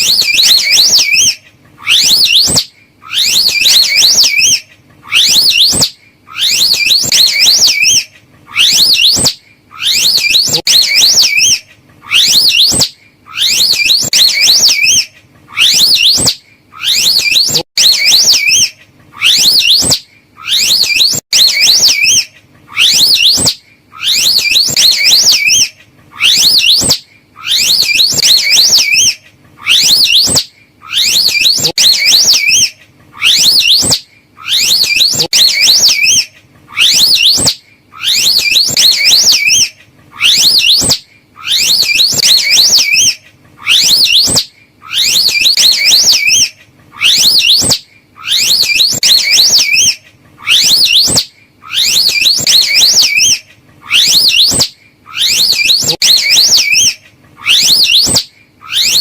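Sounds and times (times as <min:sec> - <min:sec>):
high-pitched warbling whistled calls: 0:00.0 - 0:59.0.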